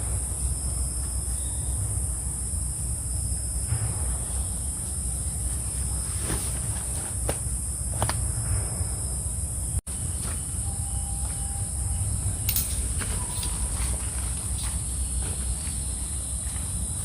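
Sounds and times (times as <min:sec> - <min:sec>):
insect chorus drone: 0:00.0 - 0:17.0
low background rumble: 0:00.0 - 0:17.0.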